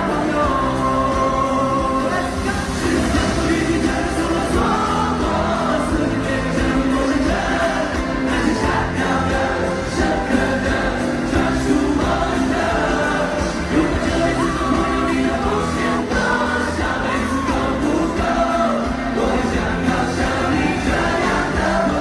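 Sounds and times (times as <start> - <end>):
live pop band playing: 0.0 - 22.0
people singing: 0.0 - 22.0.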